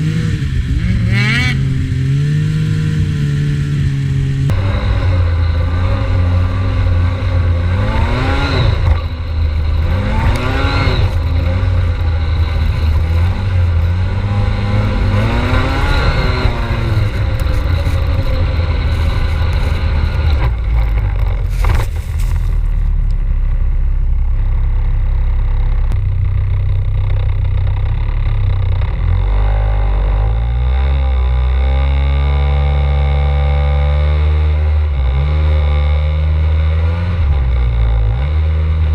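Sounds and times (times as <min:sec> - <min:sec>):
snowmobile engines droning: 0:00.0 - 0:38.9.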